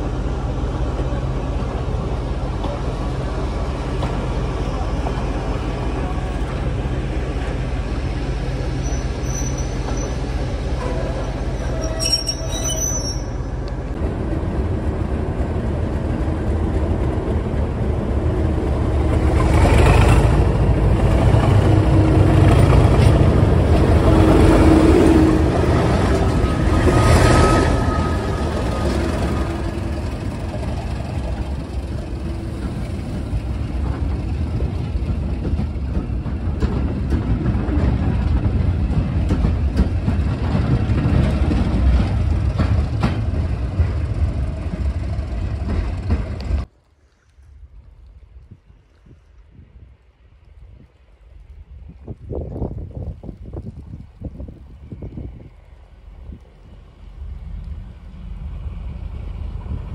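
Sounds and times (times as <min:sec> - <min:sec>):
coaches rolling on rails: 0:00.0 - 0:59.9
diesel locomotive engine: 0:00.0 - 0:59.9.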